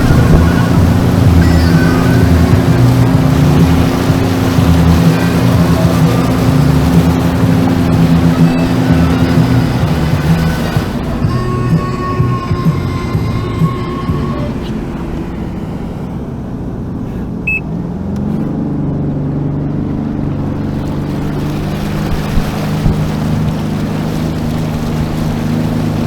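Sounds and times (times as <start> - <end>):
wind noise: 0.0 - 16.2, 19.4 - 26.0
jet ski engine running: 0.0 - 26.0
rushing water: 0.0 - 26.0.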